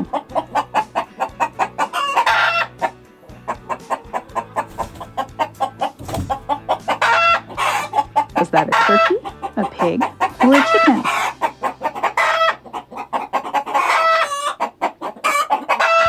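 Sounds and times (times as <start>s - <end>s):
chicken clucking: 0.0s - 16.0s
chicken squawk: 0.0s - 16.0s.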